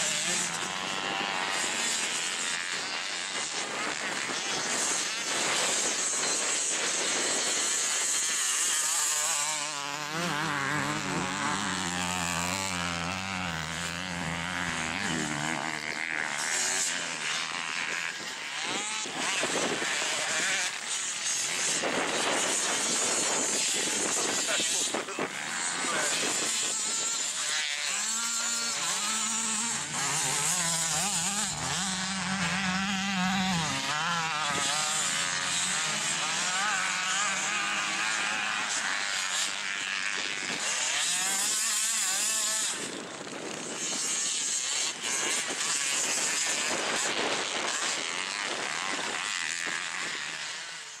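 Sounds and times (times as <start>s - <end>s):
dirt bike engines revving: 0.0s - 51.0s.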